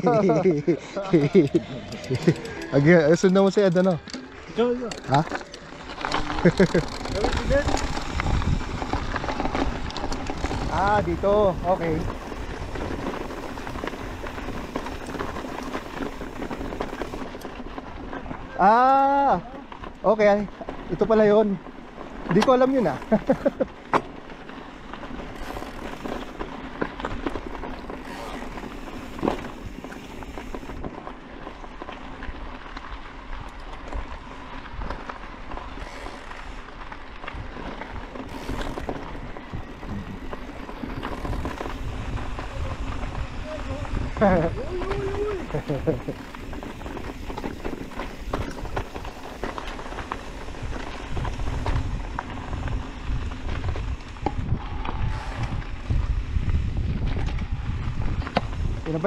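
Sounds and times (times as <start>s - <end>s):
tyres crunching on gravel: 0.0s - 59.0s
small clicks and rattles: 1.0s - 55.6s
wind rumble on microphone: 3.9s - 23.7s, 24.6s - 59.0s.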